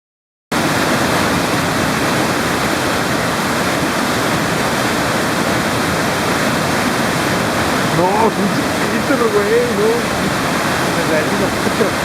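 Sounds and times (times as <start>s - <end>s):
waterfall roaring: 0.6s - 12.0s.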